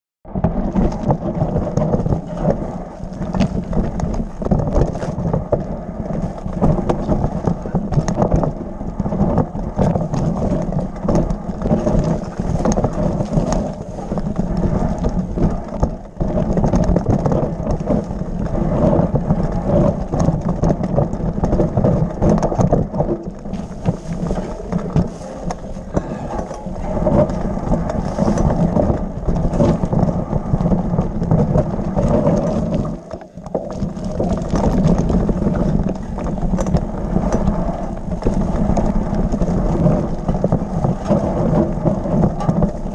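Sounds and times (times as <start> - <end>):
bike clicking and rattling: 0.3 - 42.9
bike tyres rumbling over stones: 0.3 - 42.9.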